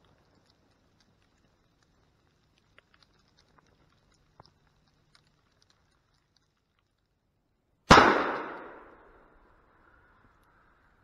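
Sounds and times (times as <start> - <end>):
faint ticks and clicks: 0.0 - 7.7, 8.6 - 11.0.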